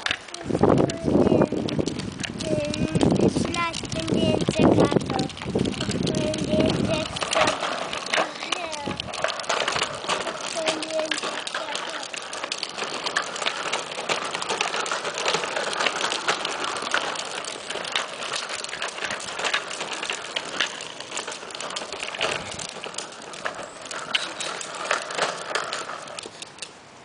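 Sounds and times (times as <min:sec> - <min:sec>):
hard wheels rolling on concrete: 0:00.0 - 0:27.0.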